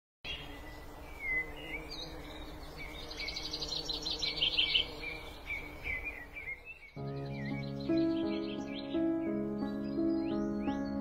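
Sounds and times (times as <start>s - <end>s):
high bird chirps: 0.3s - 11.0s
birds whistling: 0.4s - 11.0s.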